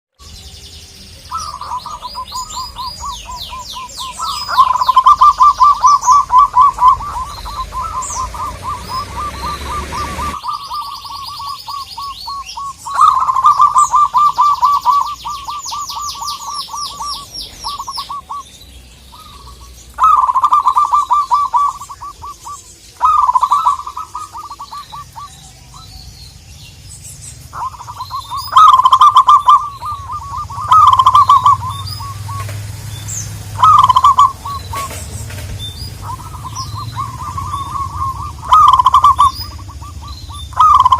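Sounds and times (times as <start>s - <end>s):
small birds chirping: 0.1s - 40.9s
dove cooing trill: 1.1s - 40.9s.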